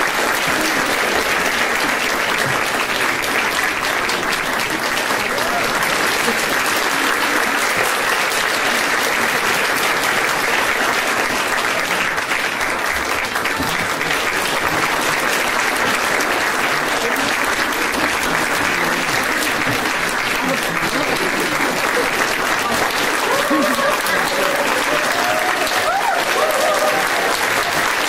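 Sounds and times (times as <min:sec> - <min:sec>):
large audience applauding: 0:00.0 - 0:28.0.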